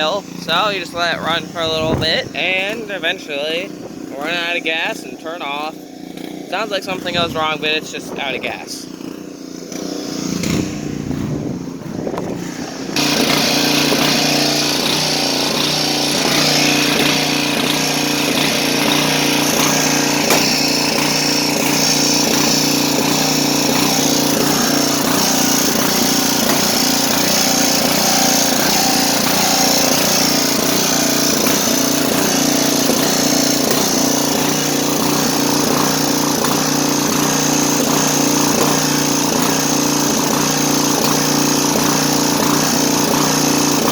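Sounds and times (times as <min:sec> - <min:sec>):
small gasoline engine running: 0:00.0 - 0:43.9.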